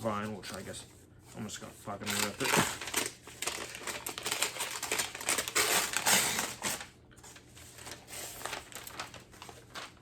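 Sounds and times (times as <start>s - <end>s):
paper sleeve crinkling and tearing: 1.4s - 10.0s.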